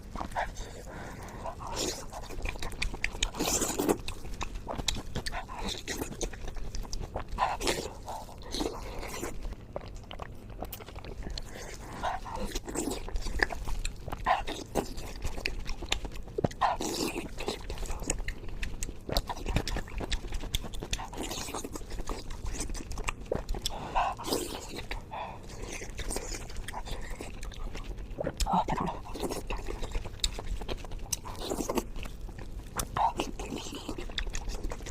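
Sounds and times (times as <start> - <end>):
wet chewing: 0.0 - 34.9.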